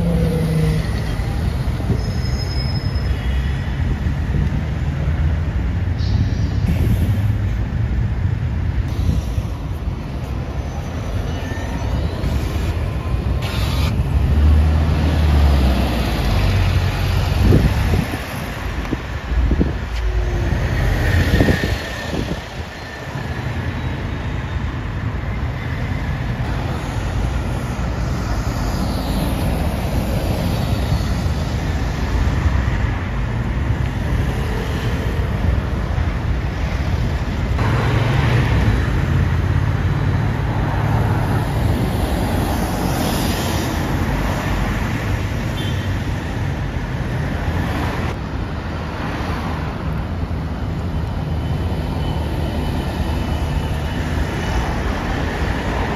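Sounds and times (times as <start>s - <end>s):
bus passing close: 0.0s - 55.9s
road traffic rumble: 0.0s - 55.9s.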